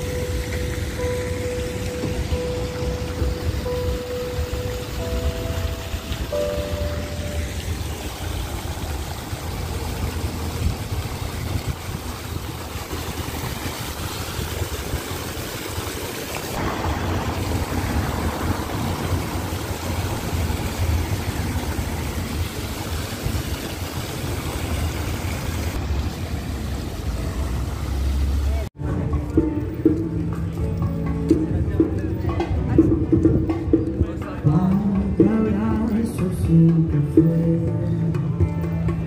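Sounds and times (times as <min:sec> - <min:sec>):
low street rumble: 0:00.0 - 0:15.3, 0:15.9 - 0:39.0
fountain jets splashing: 0:00.0 - 0:39.0.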